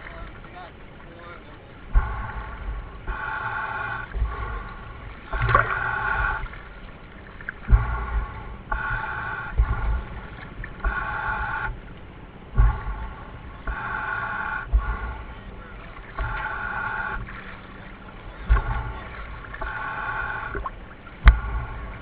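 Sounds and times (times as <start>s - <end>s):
diver breathing through regulator: 1.9s - 6.8s, 7.5s - 22.0s.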